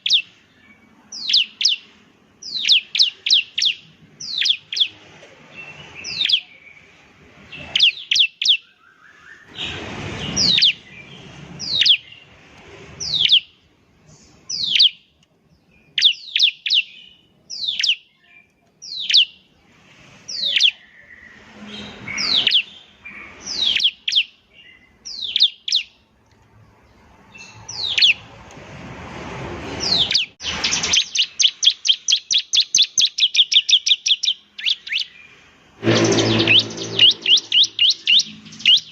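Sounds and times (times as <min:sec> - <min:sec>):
bird whistled song: 0:00.0 - 0:06.9, 0:07.5 - 0:12.3, 0:13.0 - 0:13.6, 0:14.5 - 0:15.0, 0:15.6 - 0:19.5, 0:20.3 - 0:26.0, 0:27.4 - 0:28.2, 0:29.8 - 0:38.9.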